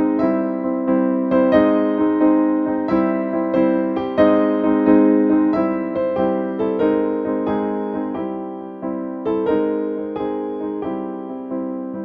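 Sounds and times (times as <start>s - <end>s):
gentle electric piano melody: 0.0s - 12.0s.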